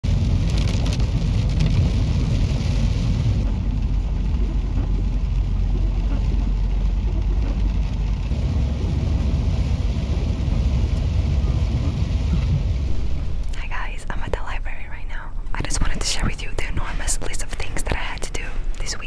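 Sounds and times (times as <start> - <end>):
car road rumble: 0.0 - 19.0
rain hissing on windshield: 0.0 - 19.0.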